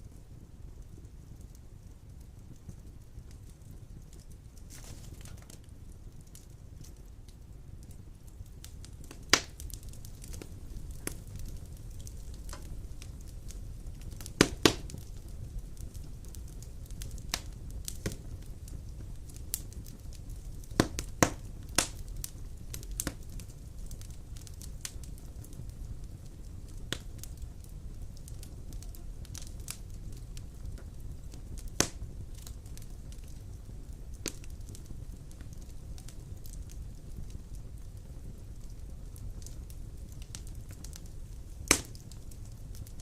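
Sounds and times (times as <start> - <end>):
fire crackles and pops: 0.0 - 43.0
low rumble of flames: 0.0 - 43.0.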